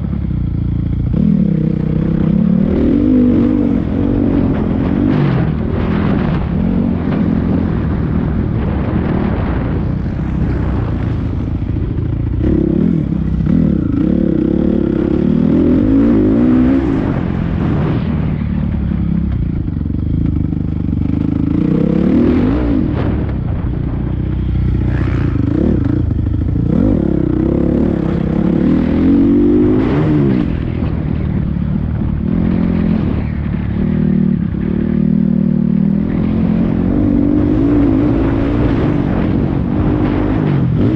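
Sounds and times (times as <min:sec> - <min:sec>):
motocross bike engine revving: 0:00.0 - 0:19.3, 0:20.0 - 0:23.6, 0:24.5 - 0:40.9.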